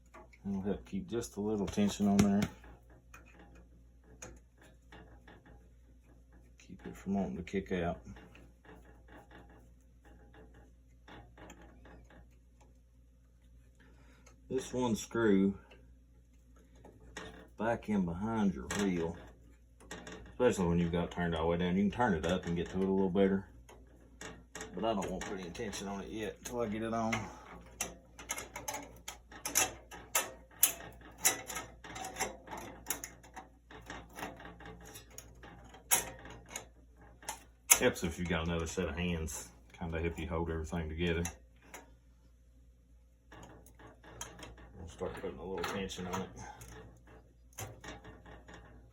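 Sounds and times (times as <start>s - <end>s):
metal parts clicking and tapping: 1.6s - 12.8s, 18.5s - 42.0s, 43.3s - 48.9s.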